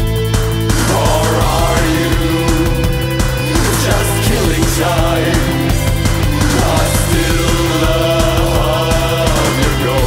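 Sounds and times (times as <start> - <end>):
driving bass line: 0.0 - 10.0
ringing guitar chords: 0.0 - 10.0.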